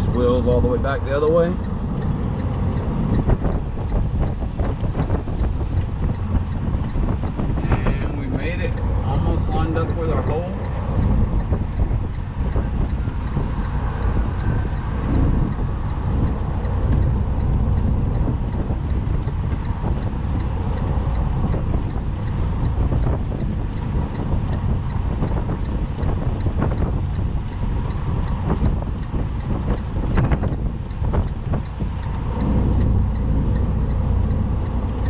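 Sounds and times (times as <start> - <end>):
diesel truck engine rumbling: 0.0 - 35.0.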